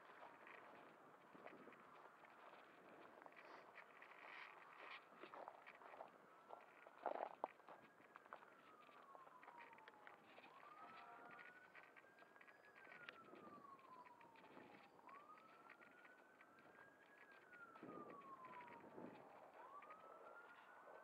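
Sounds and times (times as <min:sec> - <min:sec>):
faint siren wailing: 0:00.0 - 0:21.0.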